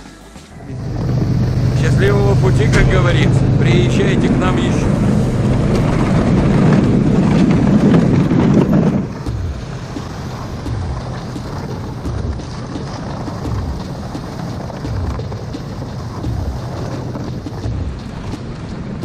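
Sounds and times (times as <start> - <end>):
sled rumbling across snow: 0.0 - 19.0
snowmobile engine: 0.0 - 19.0
wind buffeting microphone: 0.5 - 19.0.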